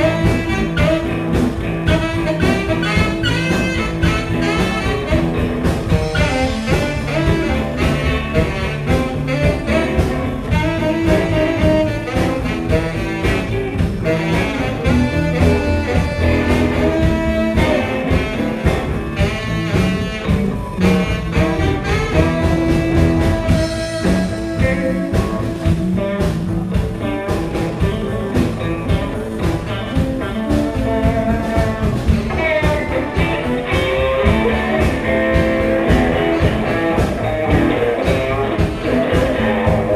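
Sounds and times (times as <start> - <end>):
blues band playing: 0.0 - 39.9
saxophone bending notes: 0.0 - 39.9.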